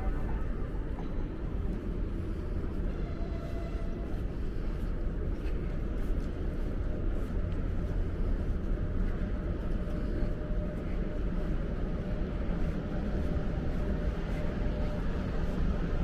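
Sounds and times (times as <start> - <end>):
low urban rumble: 0.0 - 16.0.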